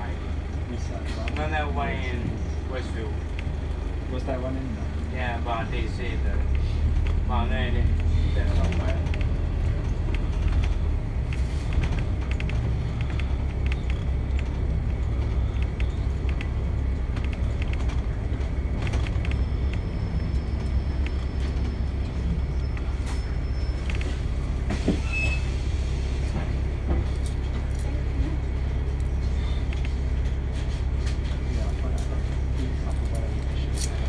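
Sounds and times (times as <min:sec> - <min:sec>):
bus engine and road rumble: 0:00.0 - 0:34.0.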